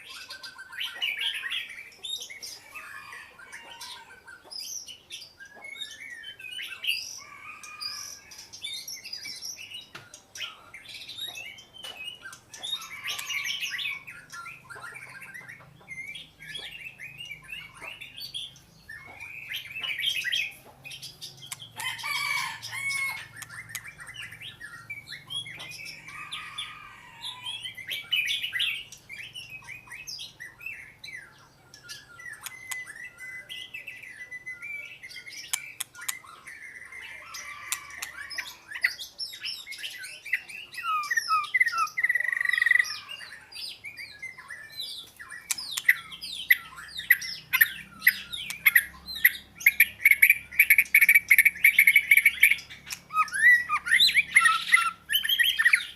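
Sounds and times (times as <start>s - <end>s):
bird singing whistles and chirps: 0.0s - 55.9s.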